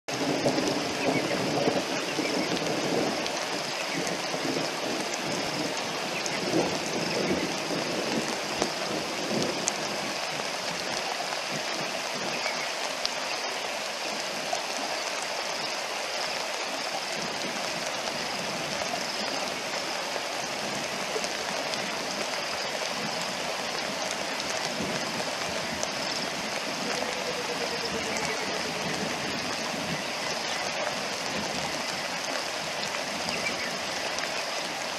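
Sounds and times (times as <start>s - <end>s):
rain falling on river water: 0.1s - 34.9s.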